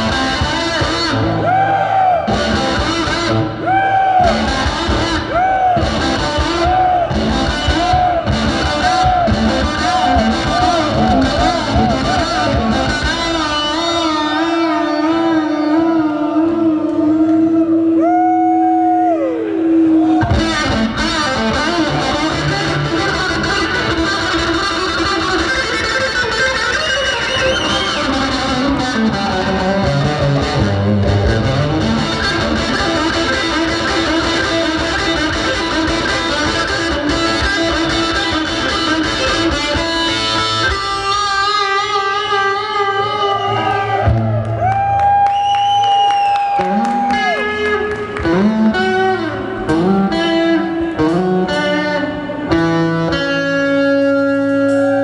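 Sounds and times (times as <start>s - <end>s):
distorted electric guitar: 0.0s - 55.0s
live rock band playing: 0.0s - 55.0s.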